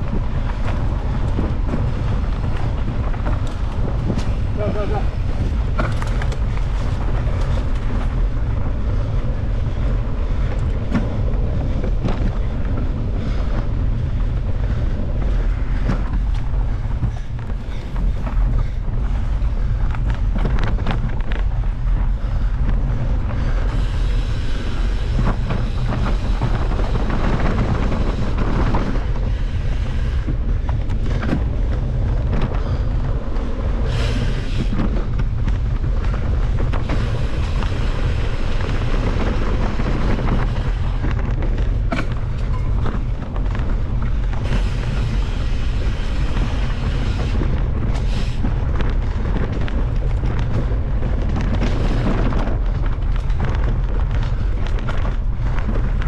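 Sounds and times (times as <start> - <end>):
bike clicks and knocks: 0.0 - 56.0
wind buffeting microphone: 0.0 - 56.0.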